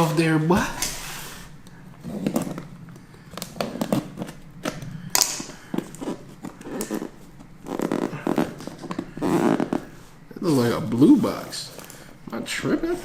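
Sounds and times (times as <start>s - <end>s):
wrapping rustling: 0.6s - 13.0s.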